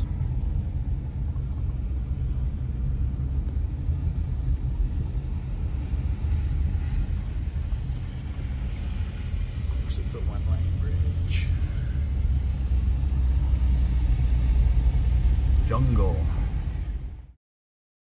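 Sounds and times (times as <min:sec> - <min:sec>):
car road rumble from cabin: 0:00.0 - 0:17.4.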